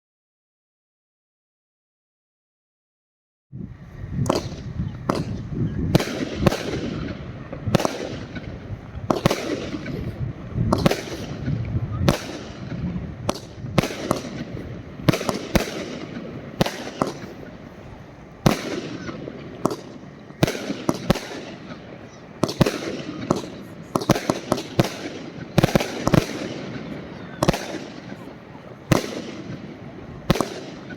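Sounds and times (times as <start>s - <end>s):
firework bangs with trailing crackle: 3.9s - 30.9s.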